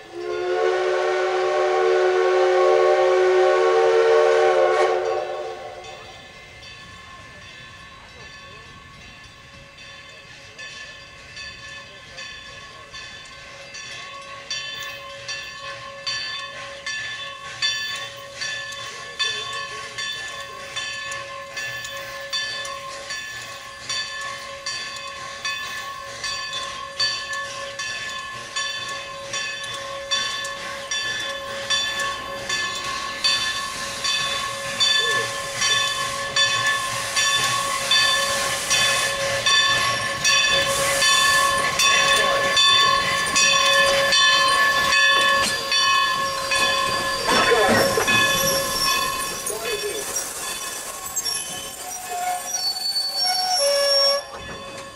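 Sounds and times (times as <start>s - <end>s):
steam hissing: 0.0s - 54.9s
steam locomotive bell ringing: 0.0s - 54.9s.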